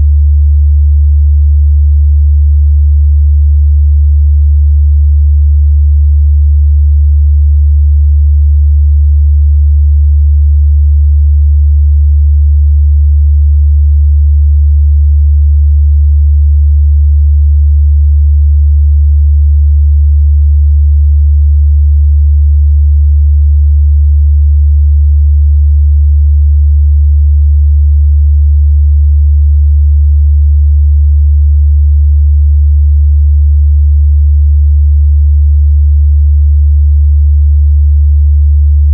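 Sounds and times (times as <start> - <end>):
low sine-wave test tone: 0.0 - 38.9.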